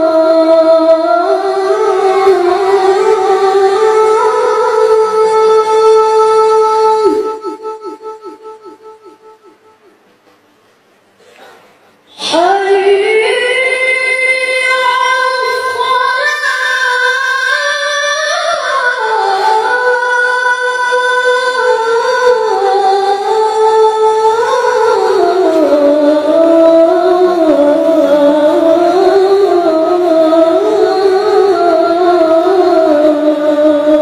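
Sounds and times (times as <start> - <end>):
boy chanting call to prayer: 0.0 - 10.0, 11.2 - 34.0.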